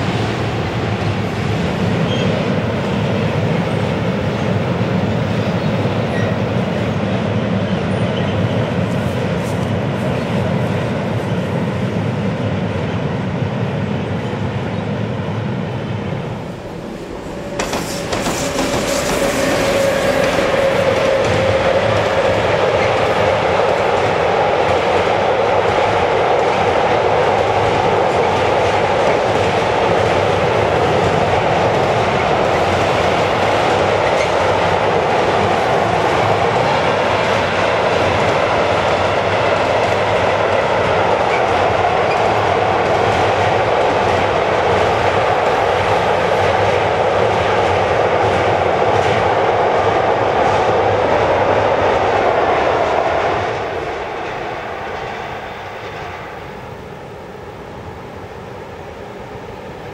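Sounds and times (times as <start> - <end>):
freight train wheels rolling on rails: 0.0 - 59.9.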